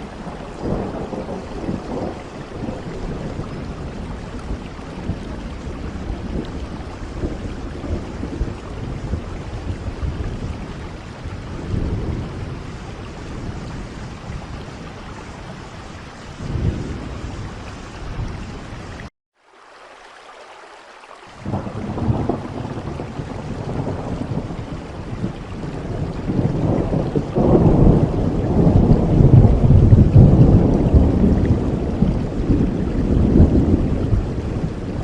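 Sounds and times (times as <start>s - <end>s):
thunder rumbling: 0.0s - 19.1s, 21.4s - 35.0s
steady rain falling: 0.0s - 35.0s.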